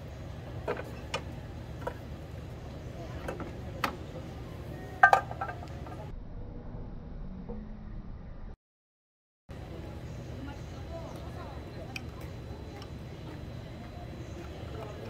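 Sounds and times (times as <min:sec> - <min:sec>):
low background hum: 0:00.0 - 0:08.6, 0:09.5 - 0:15.0.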